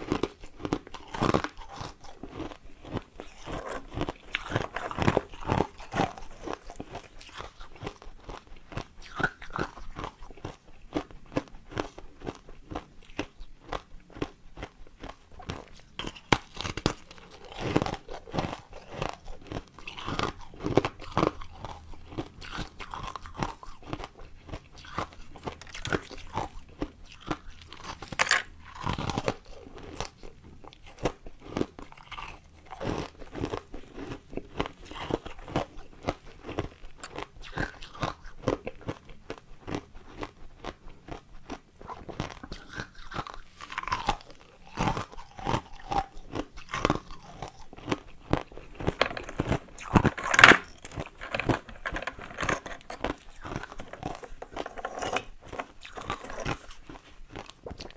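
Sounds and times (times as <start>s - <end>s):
ice cubes crunching while chewed: 0.0s - 57.9s.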